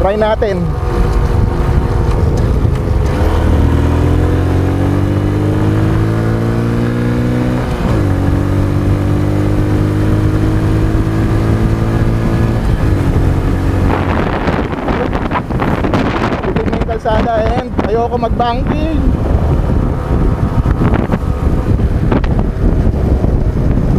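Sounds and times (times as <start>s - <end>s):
motorcycle engine accelerating: 0.0s - 23.9s
wind rushing over microphone: 0.0s - 23.9s.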